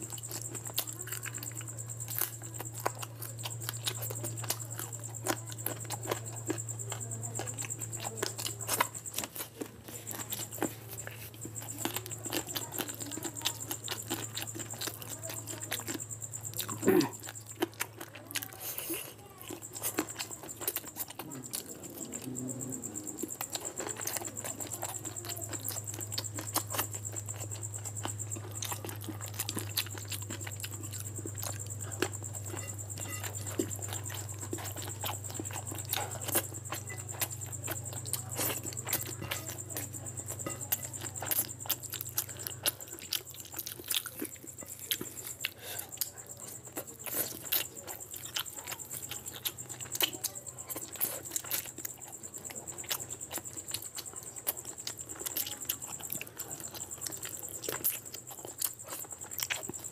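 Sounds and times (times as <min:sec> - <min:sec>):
chewing and wet mouth smacks: 0:00.0 - 0:59.9
steady low hum: 0:00.0 - 0:59.9.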